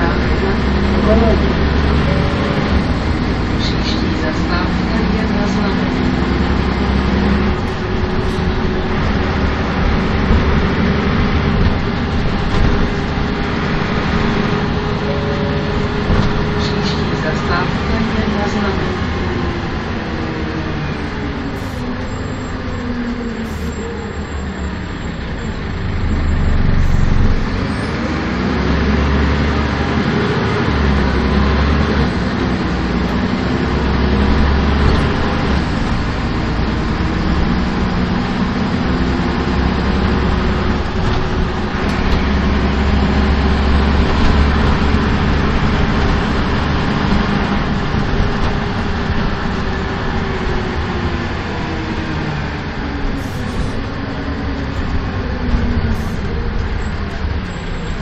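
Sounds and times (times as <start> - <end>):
bus diesel engine rumble: 0.0 - 58.0
road noise: 0.0 - 58.0.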